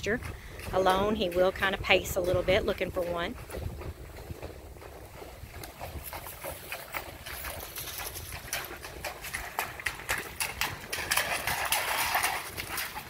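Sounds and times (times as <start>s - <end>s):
hooves splashing through creek: 0.0s - 13.0s.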